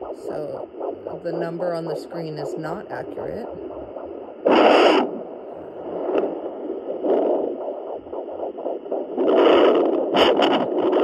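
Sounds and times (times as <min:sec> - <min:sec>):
doppler heartbeat whooshing: 0:00.0 - 0:11.0.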